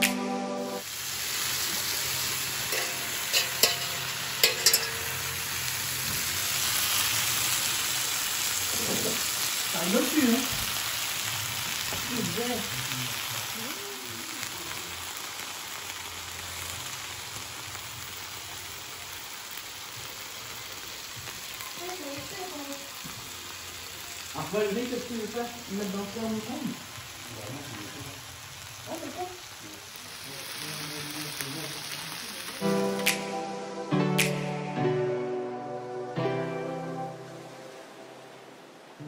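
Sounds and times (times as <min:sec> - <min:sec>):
food sizzling on a griddle: 0:00.8 - 0:34.3.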